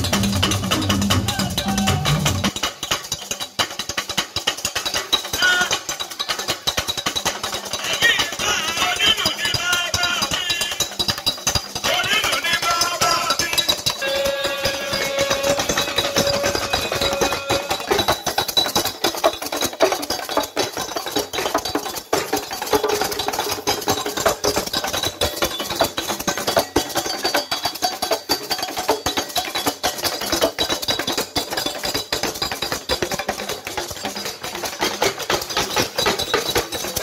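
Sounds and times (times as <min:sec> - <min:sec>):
fast drumming: 0:00.0 - 0:37.0.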